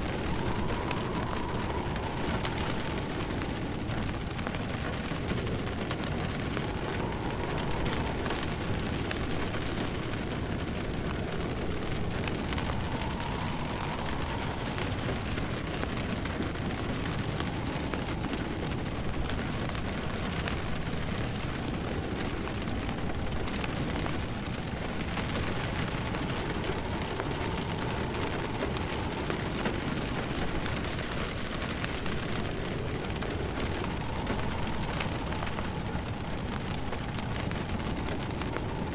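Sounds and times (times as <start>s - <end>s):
rain falling: 0.0s - 38.9s
wood fire crackling: 0.0s - 38.9s.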